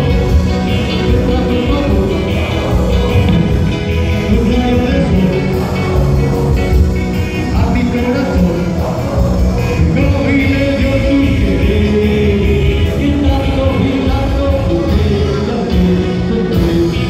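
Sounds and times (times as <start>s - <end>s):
bass guitar: 0.0s - 17.0s
drums: 0.0s - 17.0s
electric guitar: 0.0s - 17.0s
man singing: 0.0s - 17.0s.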